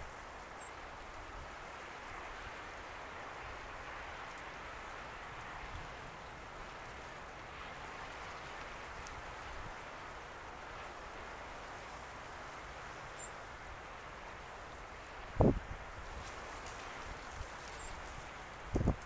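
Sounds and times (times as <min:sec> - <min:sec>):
waves lapping and splashing: 0:00.0 - 0:19.0.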